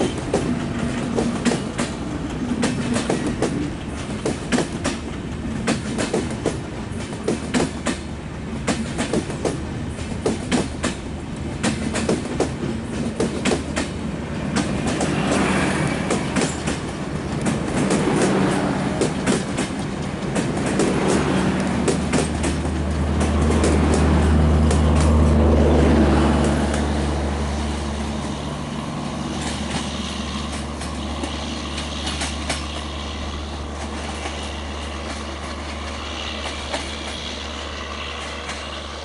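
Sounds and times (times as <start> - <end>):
rushing noise: 0.0 - 39.0
train wheels clicking over rail joints: 0.0 - 39.0.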